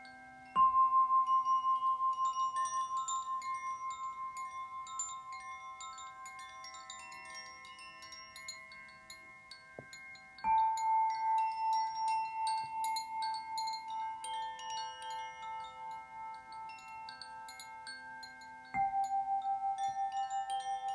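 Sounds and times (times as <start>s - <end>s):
crystal singing bowl ringing: 0.0s - 20.9s
high tinkling chime: 0.0s - 20.9s.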